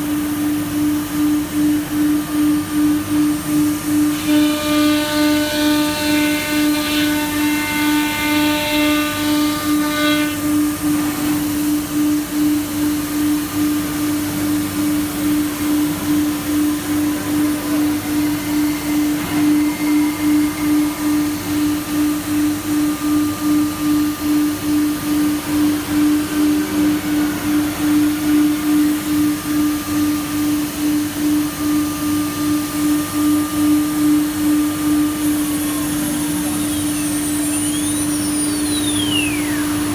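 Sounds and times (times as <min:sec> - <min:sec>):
cnc router pulsing hum: 0:00.0 - 0:39.9
high many-toned whine: 0:00.0 - 0:39.9.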